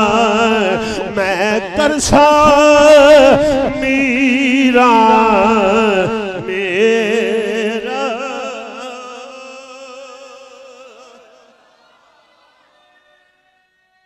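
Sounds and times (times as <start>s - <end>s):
man singing long note: 0.0s - 11.6s.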